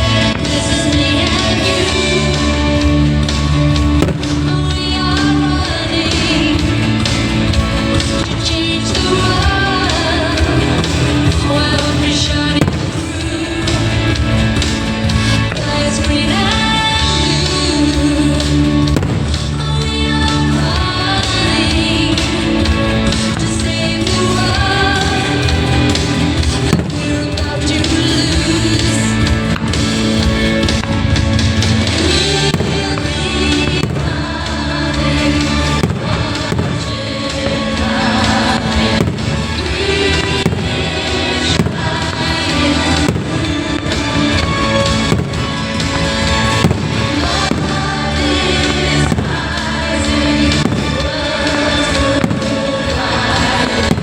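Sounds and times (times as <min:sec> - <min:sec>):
fireworks bursting: 0:00.0 - 0:54.0
loud show music: 0:00.0 - 0:54.0.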